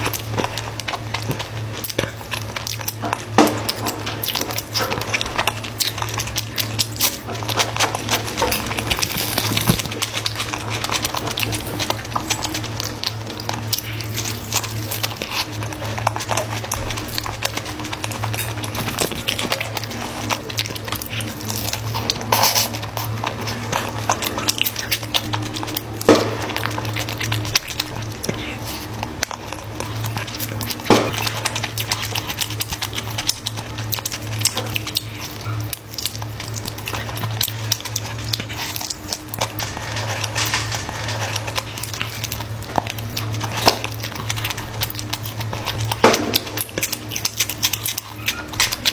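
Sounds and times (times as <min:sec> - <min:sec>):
chewing: 0:00.0 - 0:48.9
steady low hum: 0:00.0 - 0:48.9
wet lip-smacking: 0:00.0 - 0:48.9.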